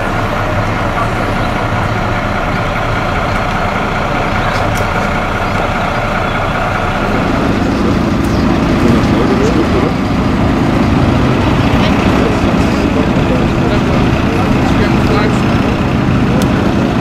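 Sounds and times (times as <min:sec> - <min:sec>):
bus engine idling: 0:00.0 - 0:17.0
deep hum: 0:00.0 - 0:17.0.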